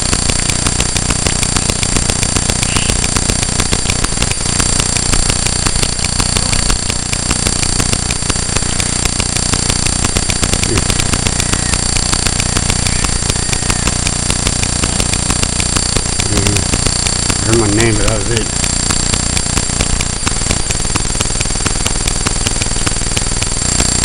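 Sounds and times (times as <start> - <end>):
camera electrical buzz with ticking: 0.0 - 24.0
low hum: 0.0 - 24.0.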